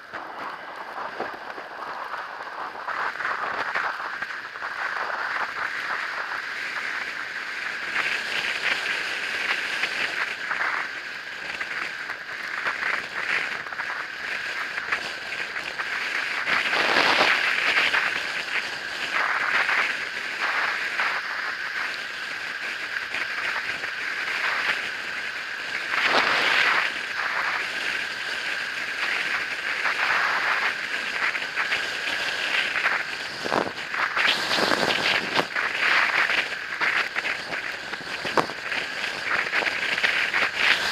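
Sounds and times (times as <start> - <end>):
e-bike motor whine: 0.0 - 40.9
rushing wind noise: 0.0 - 40.9.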